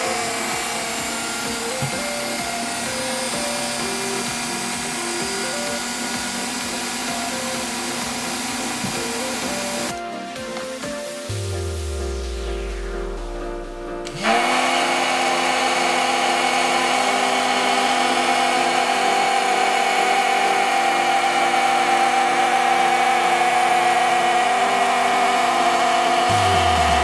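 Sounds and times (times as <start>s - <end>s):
toy helicopter motor whirring: 0.0s - 11.4s, 14.0s - 27.0s.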